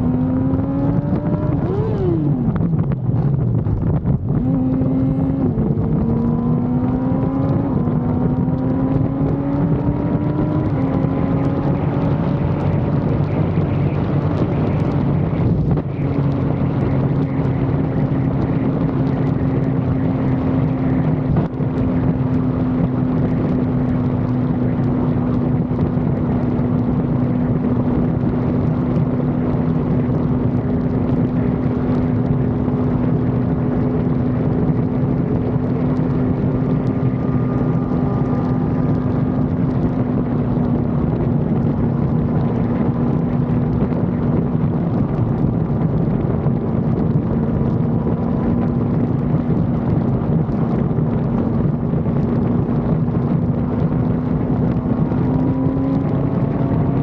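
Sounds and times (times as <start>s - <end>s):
motorcycle engine cruising: 0.0s - 57.0s
wind rushing: 0.0s - 57.0s.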